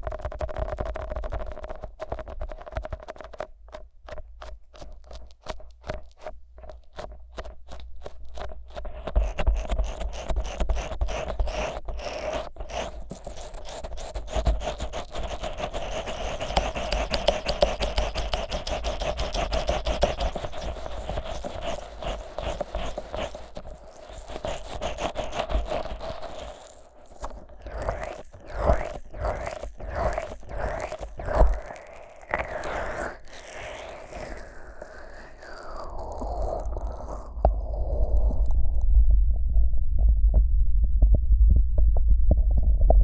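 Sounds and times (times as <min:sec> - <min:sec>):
fingers rubbing microphone: 0:00.0 - 0:38.8.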